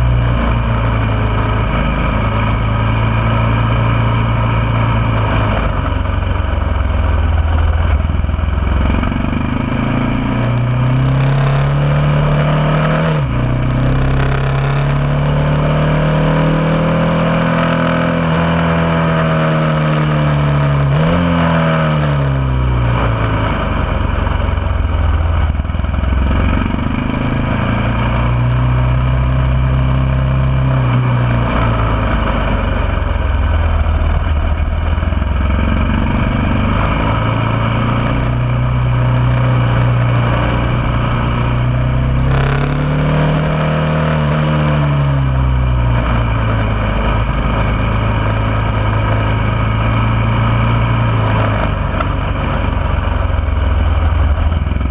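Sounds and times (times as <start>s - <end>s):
motorcycle engine: 0.0s - 54.9s.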